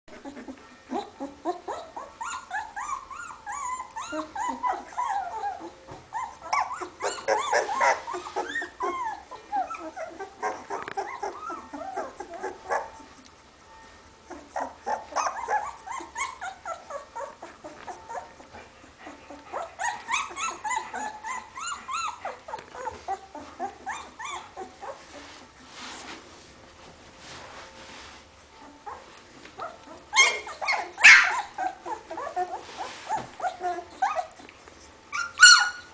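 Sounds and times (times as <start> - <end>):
puppies whimpering and squeaking: 0.1 - 26.2, 28.4 - 35.9.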